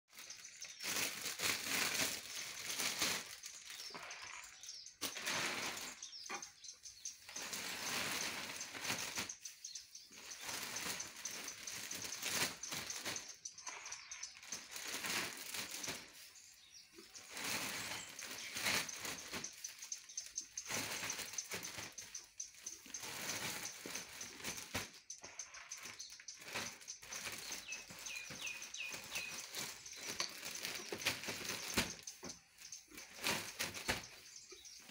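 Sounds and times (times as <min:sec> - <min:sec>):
plastic bag crinkling: 0:00.1 - 0:06.1, 0:07.3 - 0:34.9
straw rustling: 0:00.1 - 0:34.9.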